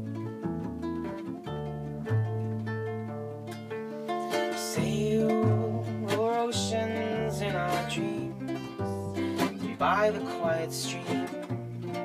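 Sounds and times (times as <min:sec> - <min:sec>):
double bass plucking: 0:00.0 - 0:12.0
strummed acoustic guitar: 0:00.0 - 0:12.0.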